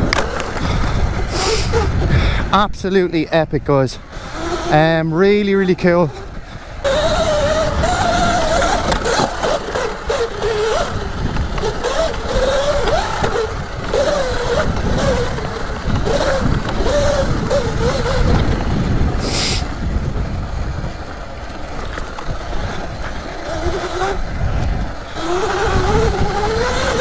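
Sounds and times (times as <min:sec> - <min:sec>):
electric dirt bike motor whining: 0:00.0 - 0:27.0
wind rumble on microphone: 0:00.0 - 0:27.0.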